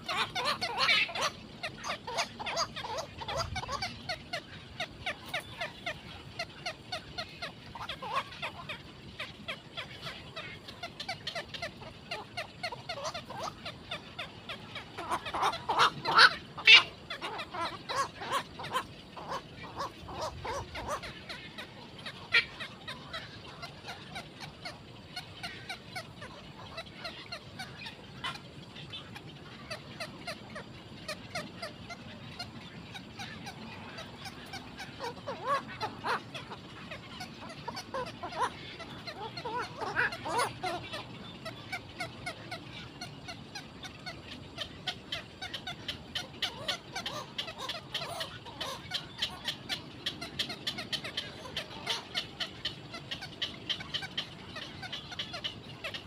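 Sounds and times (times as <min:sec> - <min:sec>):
herons chattering calls: 0:00.0 - 0:56.0.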